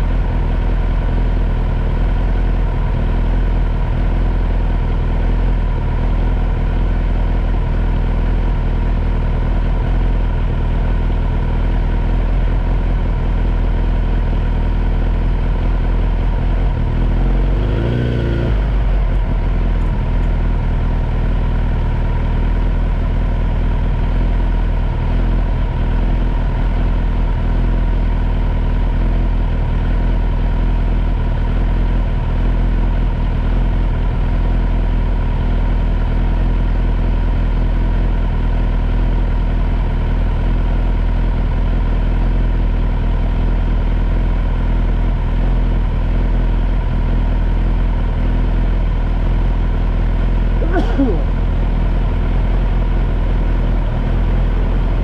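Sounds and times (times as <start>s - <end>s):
motorcycle engine idling: 0.0s - 17.9s, 18.5s - 55.0s.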